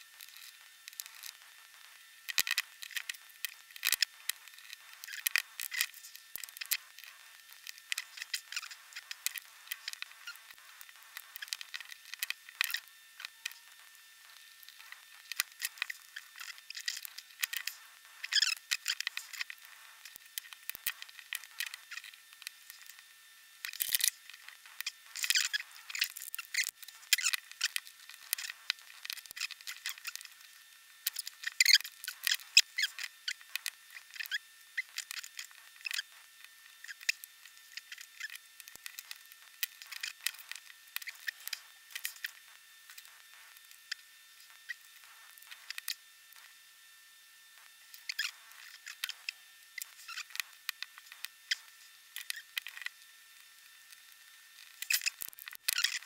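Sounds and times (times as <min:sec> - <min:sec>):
small screwdriver working: 0:02.3 - 0:13.8, 0:14.6 - 0:46.5, 0:47.9 - 0:53.0, 0:53.9 - 0:56.0.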